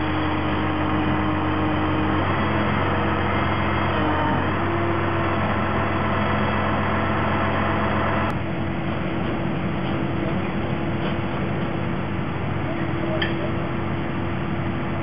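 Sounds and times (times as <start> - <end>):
large engine running: 0.0 - 15.0.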